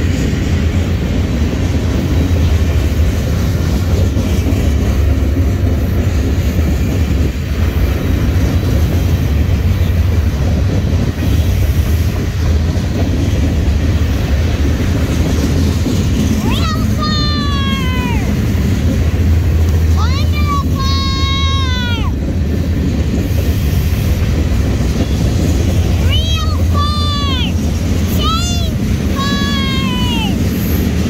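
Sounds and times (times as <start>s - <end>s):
freight train wheels on track: 0.0s - 31.0s.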